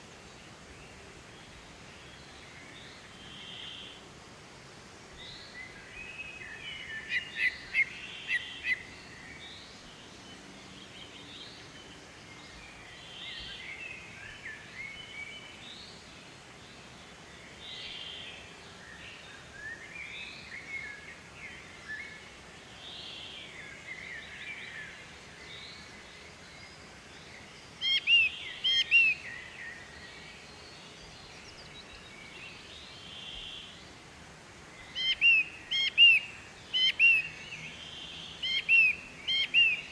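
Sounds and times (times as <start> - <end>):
birds chirping: 5.2 - 16.0, 17.5 - 39.9.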